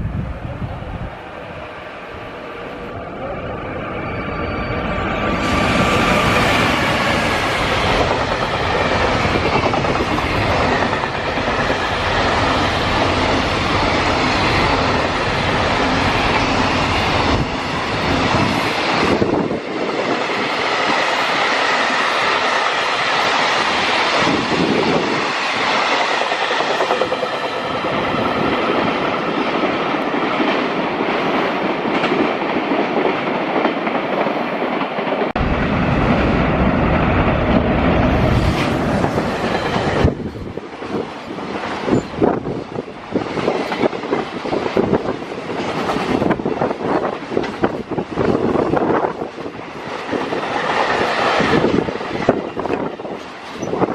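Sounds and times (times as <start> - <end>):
deep train rumble: 0.0 - 53.9.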